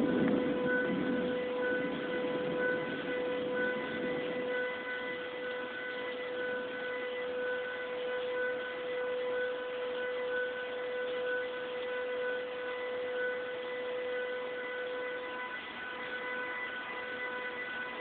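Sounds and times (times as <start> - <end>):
droning hum in the sky: 0.0 - 18.0
pulsing high tone: 0.0 - 18.0.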